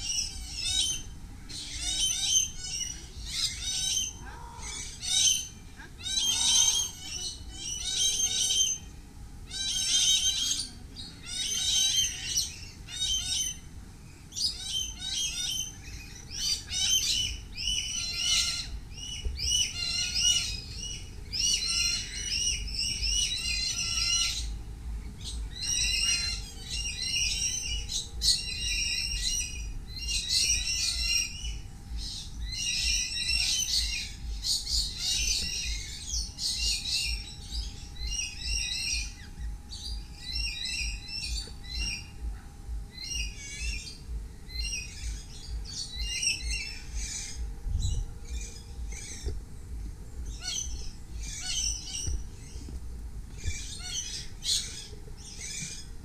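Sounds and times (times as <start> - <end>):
bird squawks: 0.0 - 8.9, 9.5 - 13.7, 14.4 - 24.6, 25.2 - 47.4, 50.2 - 52.7, 53.4 - 55.9
birds chirping: 0.0 - 56.0.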